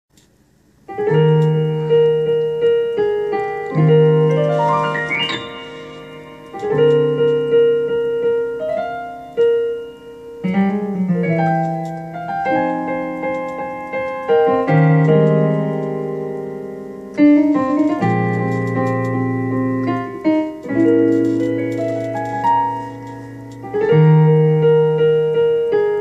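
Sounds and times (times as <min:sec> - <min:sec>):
piano chords and melody: 0:00.8 - 0:26.0.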